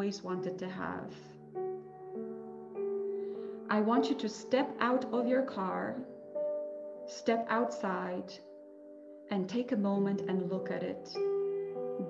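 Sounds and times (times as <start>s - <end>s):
soft slow instrumental music: 0.0s - 12.0s.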